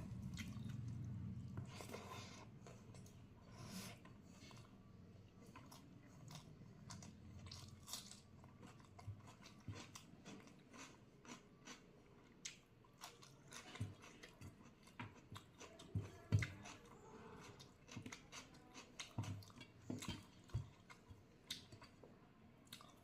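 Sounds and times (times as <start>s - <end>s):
person chewing food: 0.0s - 22.0s, 22.6s - 23.0s.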